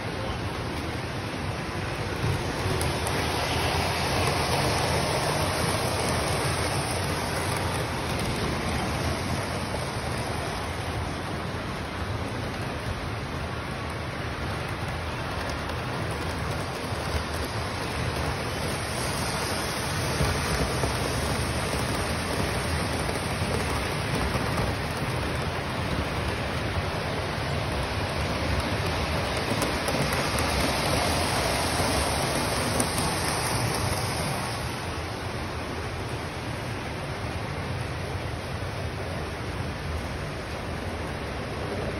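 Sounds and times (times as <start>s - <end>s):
model train wheels on rails: 0.0s - 41.9s.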